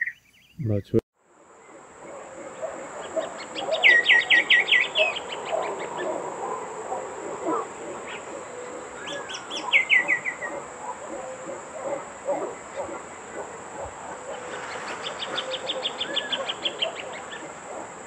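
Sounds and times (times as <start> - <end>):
bird singing rapid repeated notes: 0.0 - 18.0.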